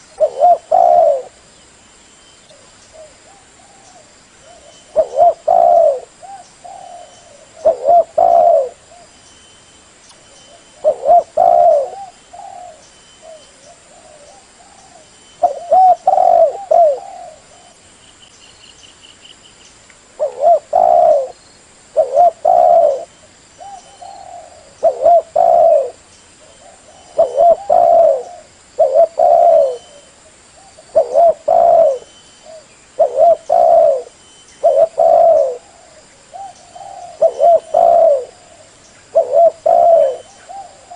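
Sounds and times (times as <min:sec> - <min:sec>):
dove cooing: 0:00.0 - 0:01.4, 0:02.5 - 0:09.1, 0:10.5 - 0:17.8, 0:20.2 - 0:40.9.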